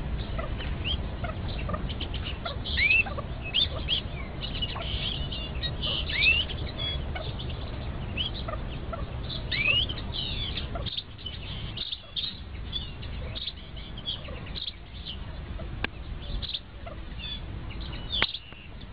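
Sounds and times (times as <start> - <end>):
chicks peeping: 0.0 - 18.9.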